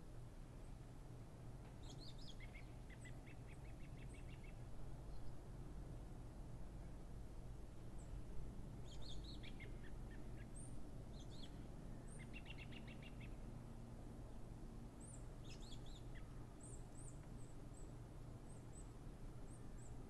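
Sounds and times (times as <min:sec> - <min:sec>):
songbirds chirping: 0:00.5 - 0:06.5, 0:07.7 - 0:20.0.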